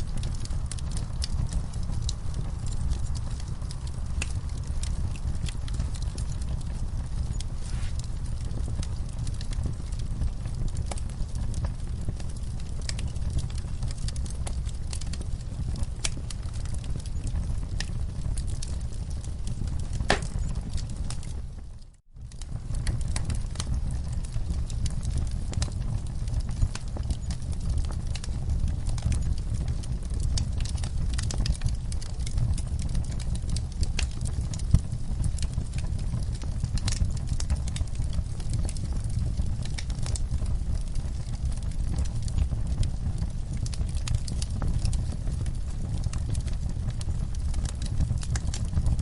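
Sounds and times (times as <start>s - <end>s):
fire crackling and popping: 0.0s - 49.0s
fire rumbling: 0.0s - 49.0s.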